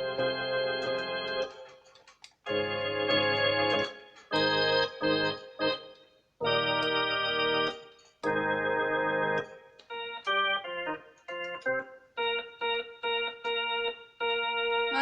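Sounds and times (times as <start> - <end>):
keyboard organ playing chords: 0.0 - 15.0.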